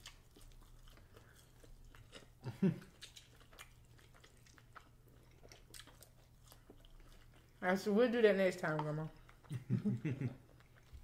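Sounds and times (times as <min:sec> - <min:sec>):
soft chewing: 0:00.0 - 0:11.0.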